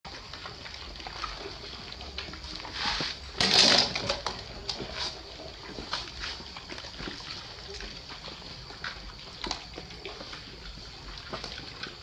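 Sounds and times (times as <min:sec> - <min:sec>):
puppies chewing and lapping: 0:00.1 - 0:12.0.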